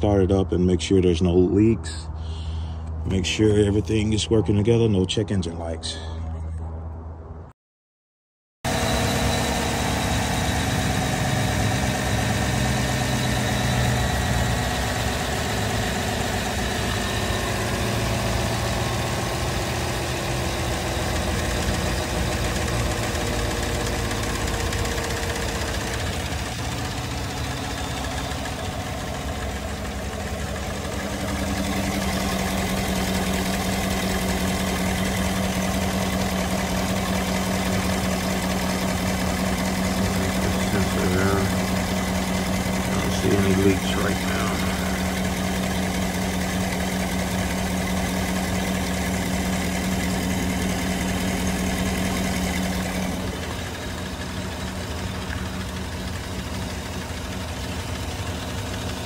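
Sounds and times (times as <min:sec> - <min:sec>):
car engine idling: 0:08.7 - 0:59.0.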